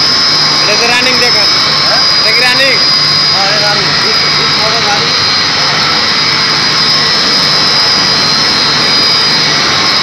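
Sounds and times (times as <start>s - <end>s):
pump motors humming with whine: 0.0s - 10.0s.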